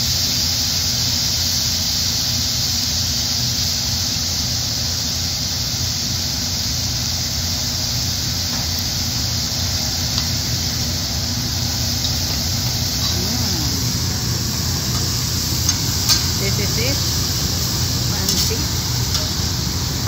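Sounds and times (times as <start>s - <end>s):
food sizzling on griddle: 0.0s - 20.0s.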